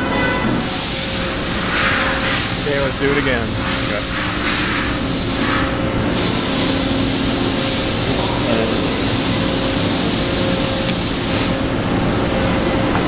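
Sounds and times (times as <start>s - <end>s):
boring mill running: 0.0s - 13.0s.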